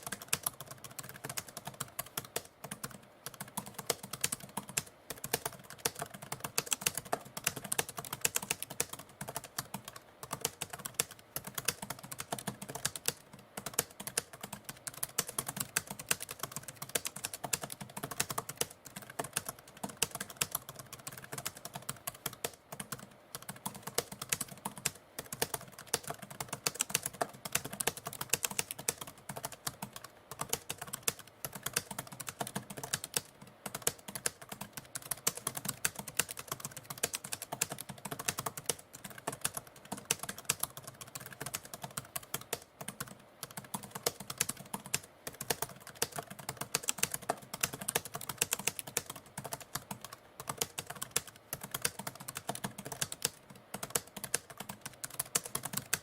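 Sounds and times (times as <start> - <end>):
manual typewriter typing: 0.0 - 56.0.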